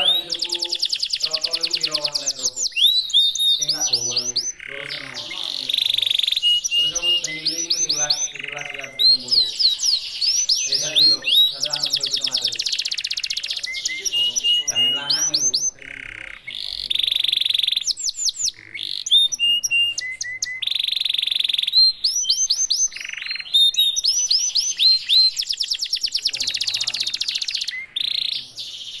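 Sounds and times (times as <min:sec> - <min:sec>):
canary singing: 0:00.0 - 0:29.0.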